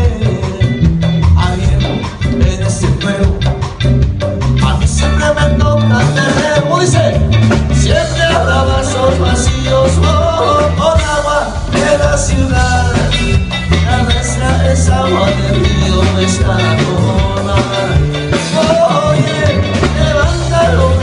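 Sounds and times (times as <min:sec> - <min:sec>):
person singing: 0:00.0 - 0:03.8, 0:04.6 - 0:21.0
bouncing bass line: 0:00.0 - 0:21.0
drums with cymbals: 0:00.0 - 0:21.0.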